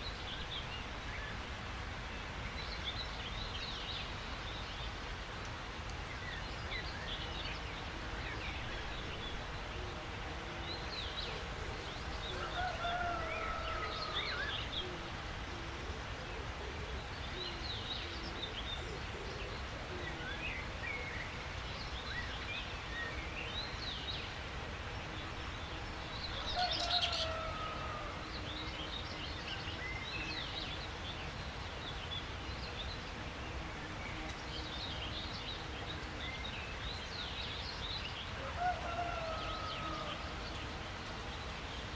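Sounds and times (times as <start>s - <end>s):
low background noise: 0.0s - 41.9s
birds chirping: 6.1s - 41.9s.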